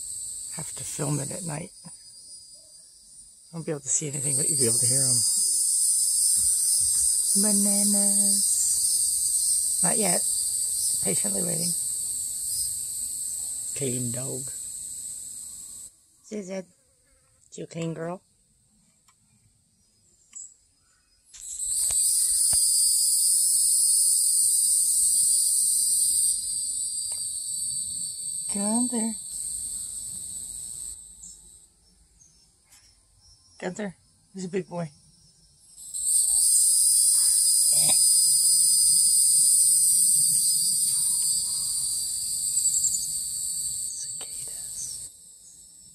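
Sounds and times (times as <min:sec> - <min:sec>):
cicada chorus buzzing: 0:00.0 - 0:17.3, 0:21.3 - 0:32.4, 0:33.2 - 0:45.9.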